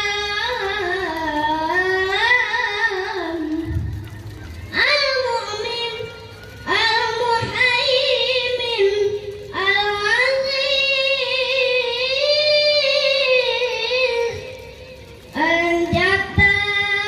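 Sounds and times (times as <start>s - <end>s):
boy chanting recitation: 0.0s - 4.1s, 4.7s - 17.0s.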